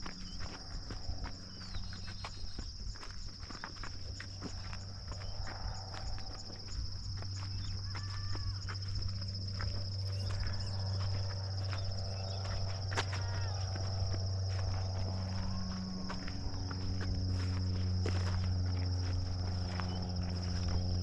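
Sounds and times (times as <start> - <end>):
footsteps on a path: 0.0 - 21.0
insect chorus trilling: 0.0 - 21.0
low steady hum: 0.0 - 21.0.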